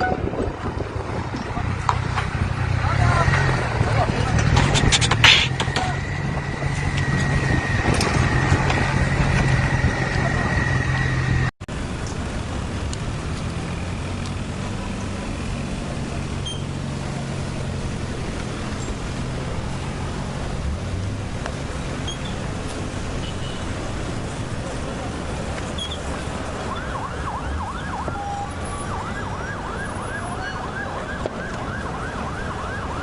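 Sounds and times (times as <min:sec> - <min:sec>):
street noise: 0:00.0 - 0:33.0
vehicle engine hum: 0:00.0 - 0:33.0.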